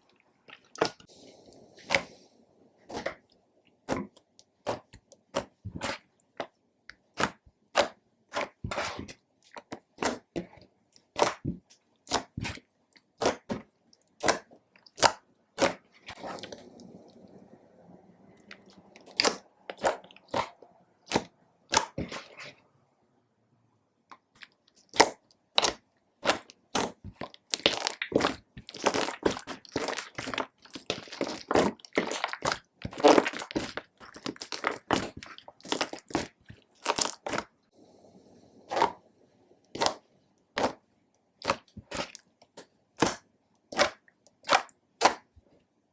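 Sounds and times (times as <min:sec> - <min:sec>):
slime being squished: 0:00.5 - 0:01.1, 0:02.8 - 0:17.4, 0:18.4 - 0:22.6, 0:24.1 - 0:37.7, 0:38.7 - 0:39.0, 0:39.7 - 0:45.4.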